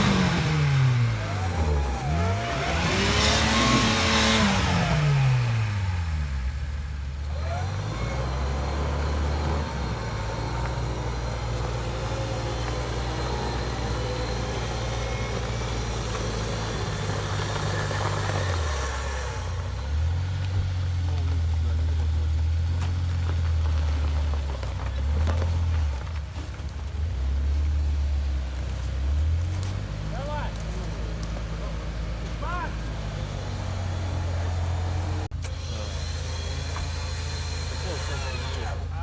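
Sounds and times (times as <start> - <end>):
off-road vehicle engine revving: 0.0 - 39.0.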